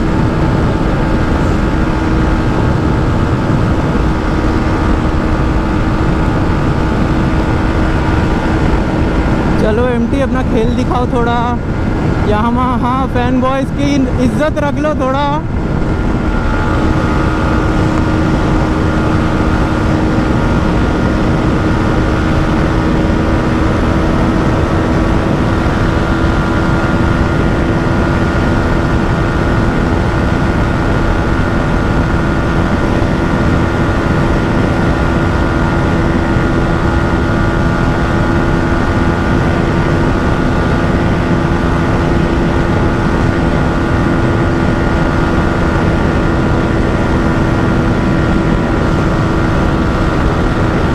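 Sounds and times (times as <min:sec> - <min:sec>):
heavy wind rush: 0:00.0 - 0:50.9
motorcycle engine at high revs: 0:00.0 - 0:50.9.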